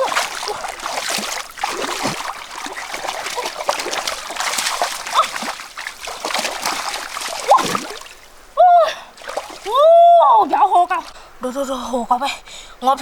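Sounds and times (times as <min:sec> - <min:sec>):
water splashing and trickling: 0:00.0 - 0:11.8.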